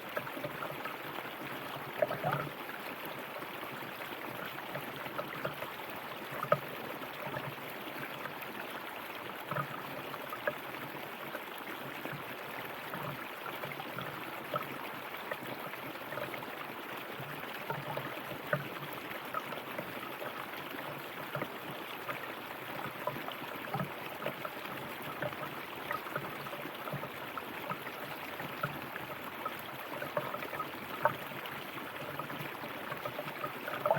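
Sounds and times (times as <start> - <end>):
river water flowing over rocks: 0.0 - 33.9
water splashes: 0.0 - 33.9.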